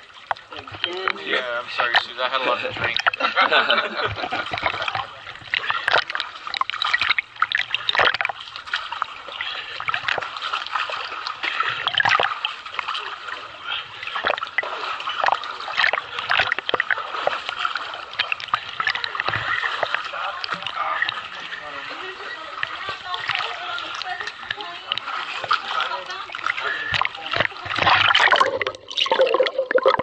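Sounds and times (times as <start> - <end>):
water dripping: 0.0 - 30.0
water splashing from swim strokes: 0.0 - 30.0.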